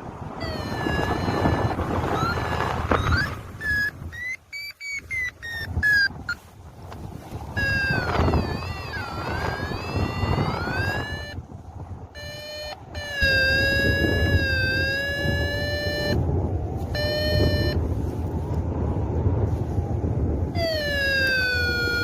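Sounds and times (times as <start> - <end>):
wind noise on microphone: 0.0 - 22.0
variometer electronic tone: 0.4 - 6.5, 7.5 - 18.0, 20.6 - 22.0.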